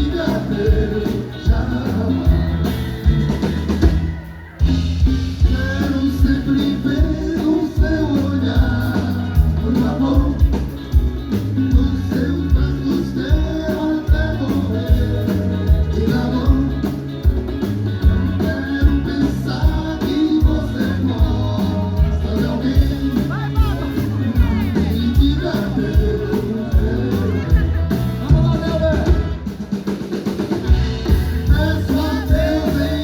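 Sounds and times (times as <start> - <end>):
person singing: 0.0 - 17.2, 18.0 - 29.5, 31.0 - 33.0
drum kit steady beat: 0.0 - 33.0.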